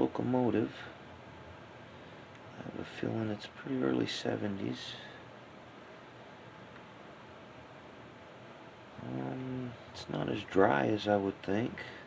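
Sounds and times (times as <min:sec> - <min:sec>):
room tone hiss: 0:00.0 - 0:12.0.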